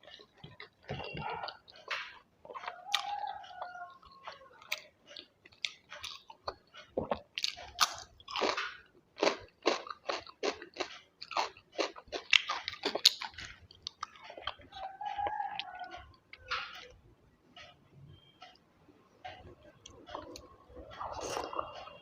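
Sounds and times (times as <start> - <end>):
person chewing crunchy food: 0.0 - 17.0, 19.3 - 22.0.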